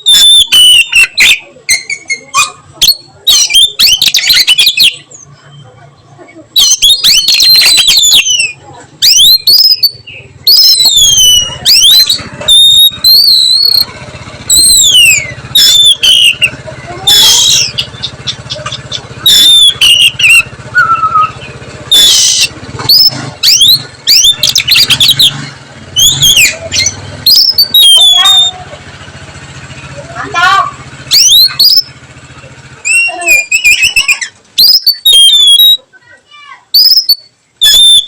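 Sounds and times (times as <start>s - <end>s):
bird singing whistled notes: 0.0s - 5.6s, 6.6s - 13.9s, 14.5s - 25.4s, 26.0s - 28.6s, 31.1s - 31.9s, 32.8s - 35.8s, 36.7s - 38.0s
harsh bird chattering: 0.0s - 36.1s, 36.7s - 38.0s.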